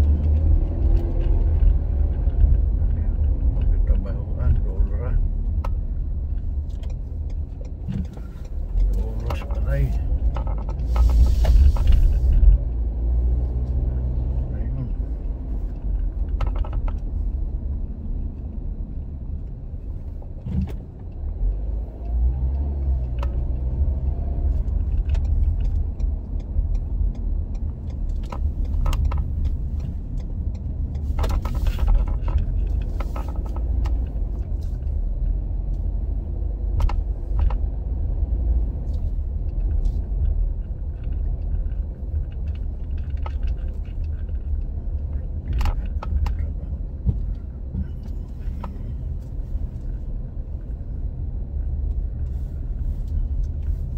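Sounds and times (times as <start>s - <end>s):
car engine and tyre rumble: 0.0s - 53.9s
small clicks and rattles: 0.1s - 12.6s, 15.5s - 17.6s, 20.6s - 36.0s, 36.6s - 53.9s.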